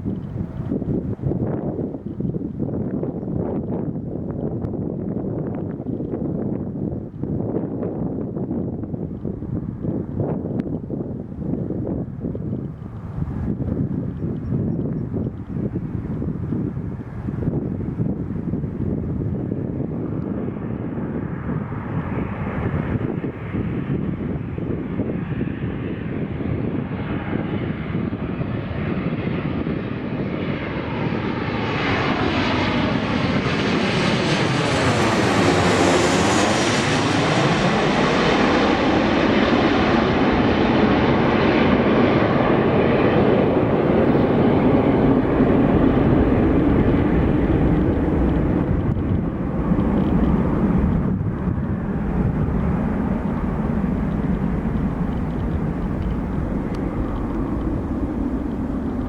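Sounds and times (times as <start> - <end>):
jet airliner passing close: 0.0 - 59.0.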